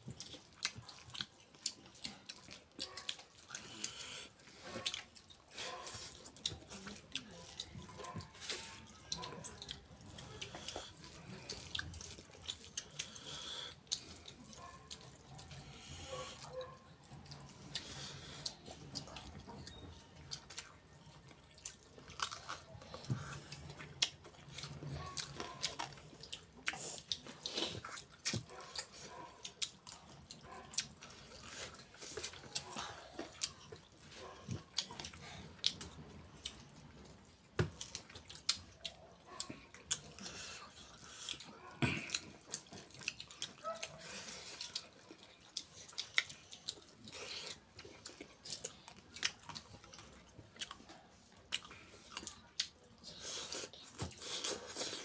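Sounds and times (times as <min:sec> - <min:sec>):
wet chewing and lip-smacking: 0:00.0 - 0:55.0.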